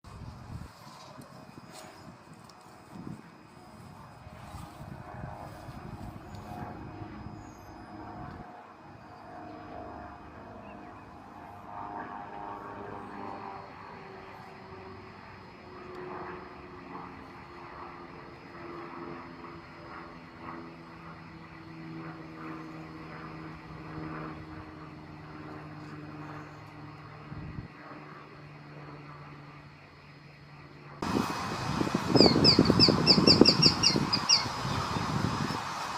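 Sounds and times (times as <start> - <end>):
distant engine drone: 0.1 - 35.9.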